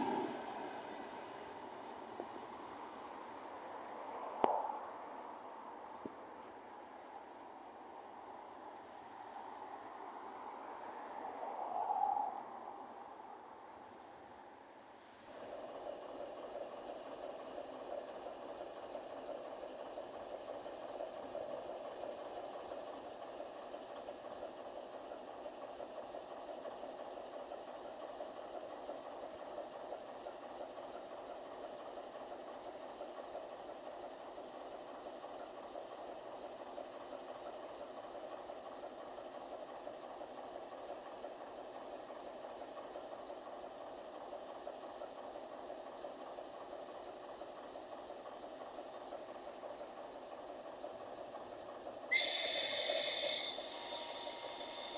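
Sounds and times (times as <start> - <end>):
diesel locomotive idling: 0.0 - 11.6, 12.3 - 54.9.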